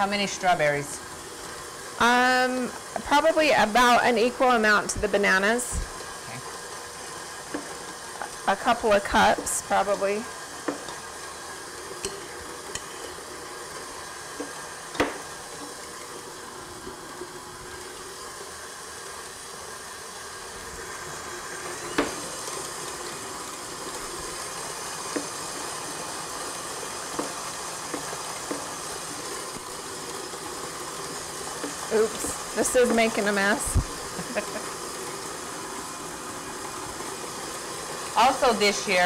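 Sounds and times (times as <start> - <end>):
stand mixer running: 0.0 - 39.0.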